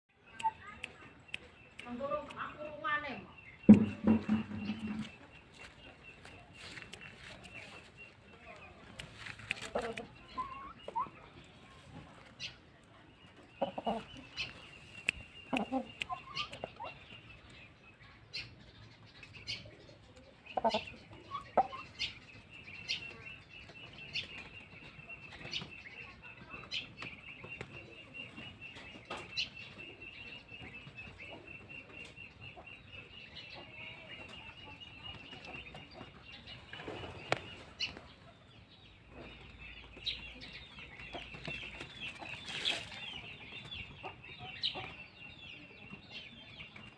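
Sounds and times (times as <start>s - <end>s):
chickens clucking: 0.2s - 46.9s.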